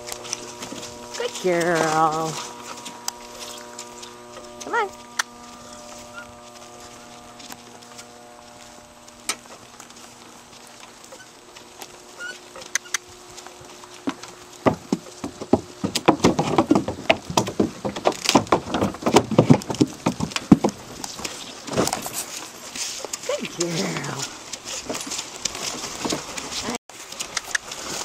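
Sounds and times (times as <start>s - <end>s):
cart rattling over boards: 0.0s - 8.3s, 9.2s - 28.0s
hooves clopping on wooden planks: 0.0s - 28.0s
hooves walking on dirt: 0.0s - 28.0s.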